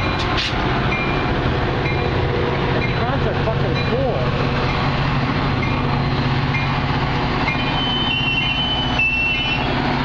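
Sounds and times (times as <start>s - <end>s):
diesel locomotive humming: 0.0s - 10.0s.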